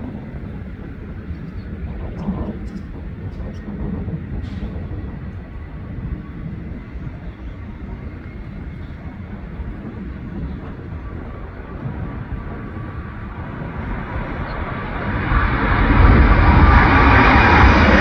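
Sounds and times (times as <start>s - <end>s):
distant jet engines rumbling: 0.0s - 18.0s
faint high engine whine: 0.0s - 18.0s.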